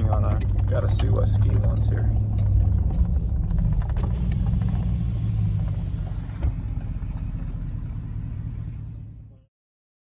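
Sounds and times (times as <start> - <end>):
low engine and road rumble: 0.0 - 9.5.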